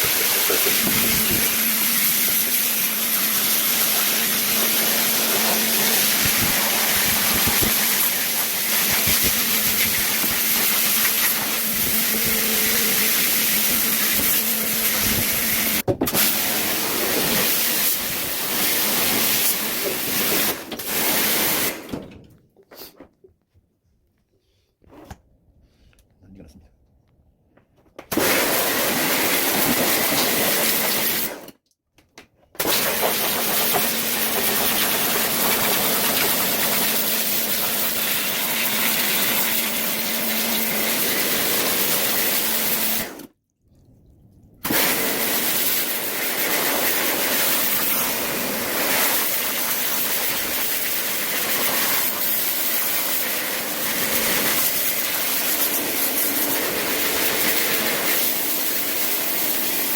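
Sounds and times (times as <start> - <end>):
high-pressure water jet spraying: 0.0 - 21.8, 28.1 - 31.4, 32.6 - 43.3, 44.6 - 59.9.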